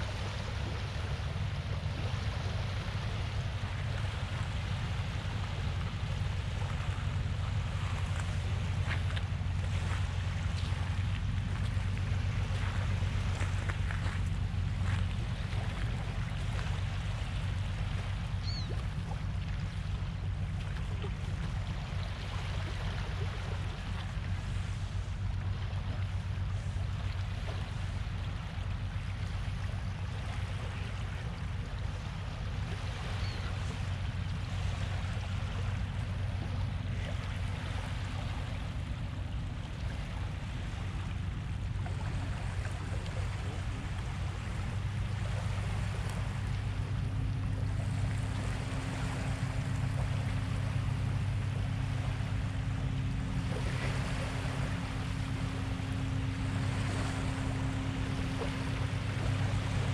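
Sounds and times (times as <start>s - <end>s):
small waves lapping on shore: 0.0s - 59.9s
steady low drone: 0.0s - 59.9s.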